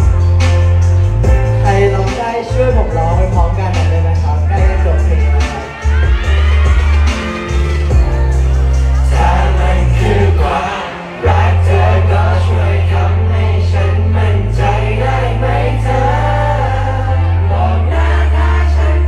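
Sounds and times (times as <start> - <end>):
backing track with heavy bass: 0.0 - 19.0.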